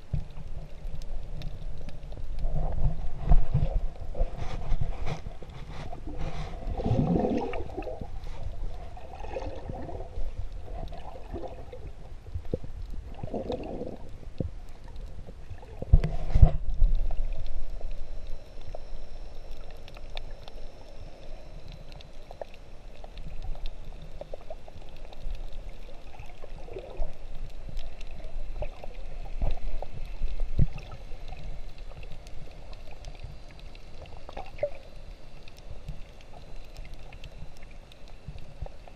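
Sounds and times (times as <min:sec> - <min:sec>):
underwater rumble and gurgling: 0:00.0 - 0:38.9.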